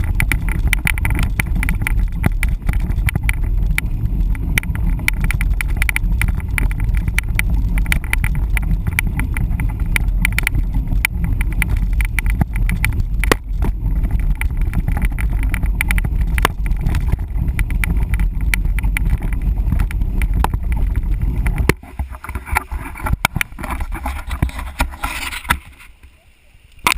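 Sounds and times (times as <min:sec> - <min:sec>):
bike clattering and rattling: 0:00.0 - 0:25.9
wind rumble on microphone: 0:00.0 - 0:26.1.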